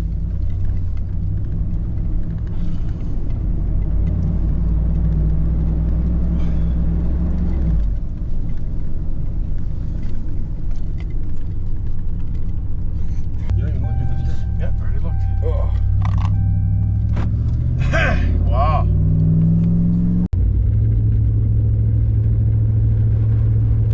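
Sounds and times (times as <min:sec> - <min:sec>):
car engine and road rumble: 0:00.0 - 0:23.9.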